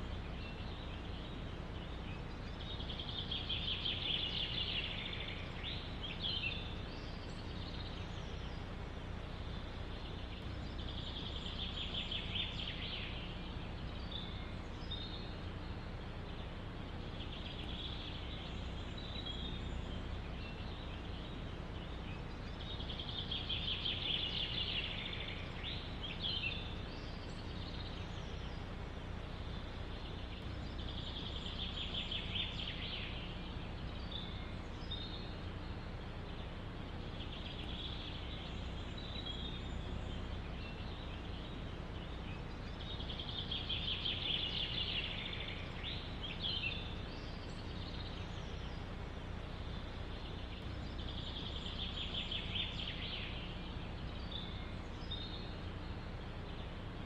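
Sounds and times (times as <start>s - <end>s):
bird chirps: 0.0s - 57.0s
low background rumble: 0.0s - 57.0s
songbird trilling: 0.0s - 57.0s.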